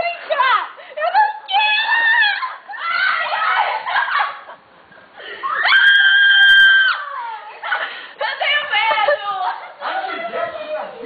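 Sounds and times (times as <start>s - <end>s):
excited voices: 0.0s - 4.6s, 5.2s - 11.0s.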